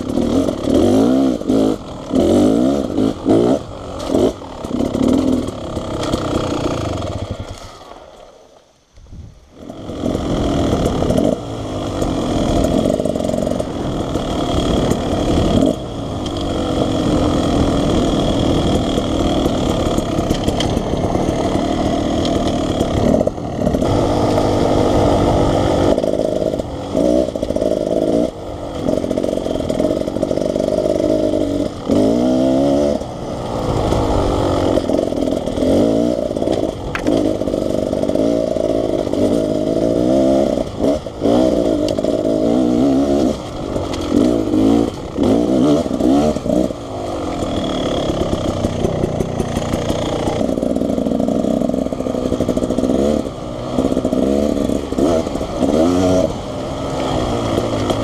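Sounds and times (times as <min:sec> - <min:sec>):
dirt bike engine revving: 0:00.0 - 0:08.0, 0:09.5 - 0:58.0.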